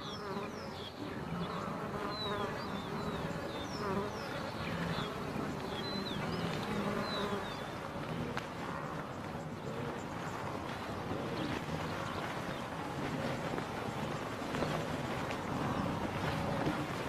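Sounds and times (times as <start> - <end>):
flies buzzing: 0.0 - 17.0.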